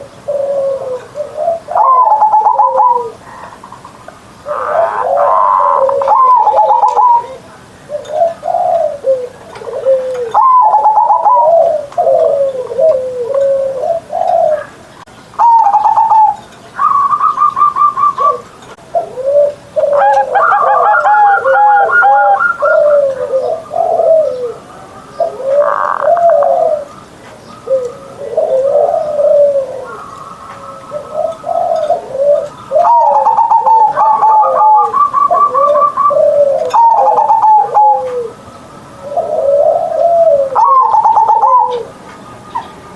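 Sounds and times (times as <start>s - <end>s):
dove cooing: 0.0s - 42.7s.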